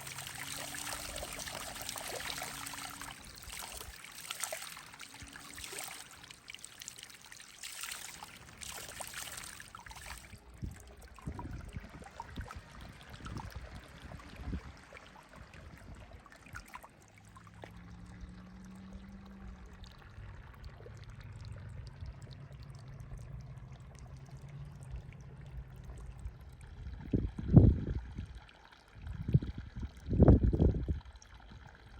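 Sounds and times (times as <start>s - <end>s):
low steady hum: 0.0s - 31.9s
water trickling and splashing: 0.0s - 31.9s.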